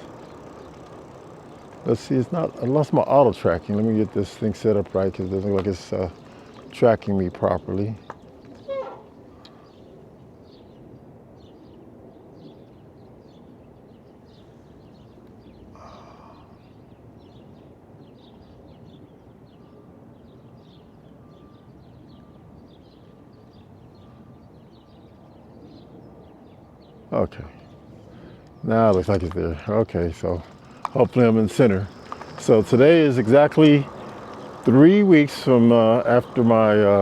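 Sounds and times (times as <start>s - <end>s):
low background noise: 0.0s - 37.0s
small birds chirping: 0.0s - 37.0s.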